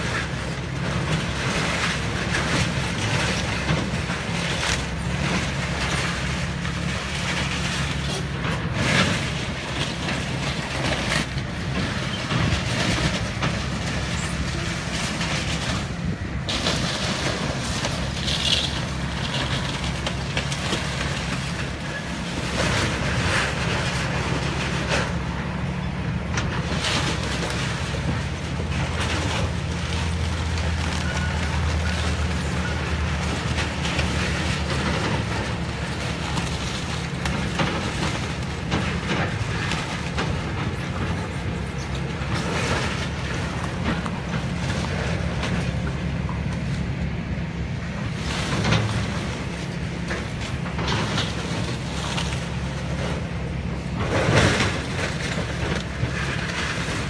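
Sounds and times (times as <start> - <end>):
falling debris crashing: 0.0 - 25.8, 26.4 - 46.7, 47.9 - 57.0
excavator diesel engine running: 0.0 - 57.0.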